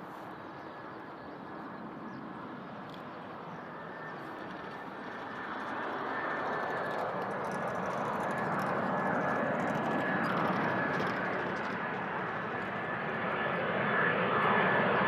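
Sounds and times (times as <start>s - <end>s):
jet engines on approach: 0.0s - 15.0s.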